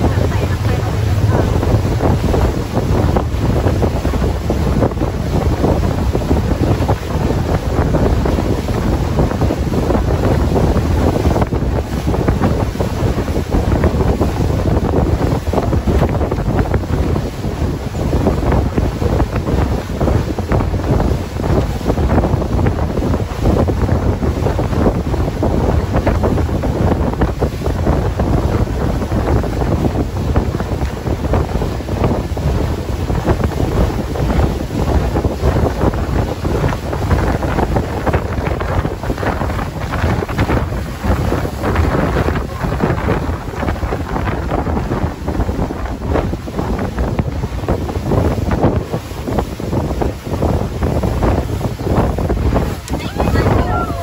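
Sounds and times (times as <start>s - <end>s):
boat moving over water: 0.0s - 54.0s
wind buffeting microphone: 0.0s - 54.0s.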